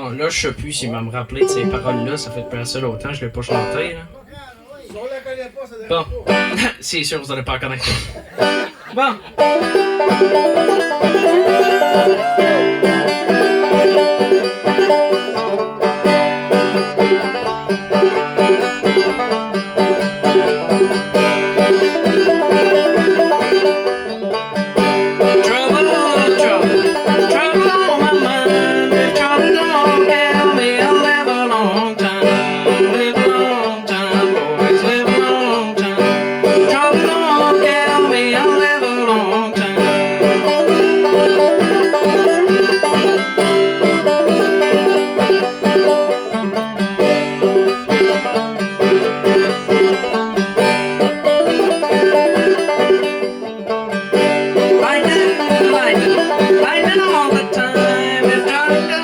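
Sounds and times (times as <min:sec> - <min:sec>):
banjo played clawhammer style: 0:00.0 - 0:05.1, 0:05.9 - 0:59.0.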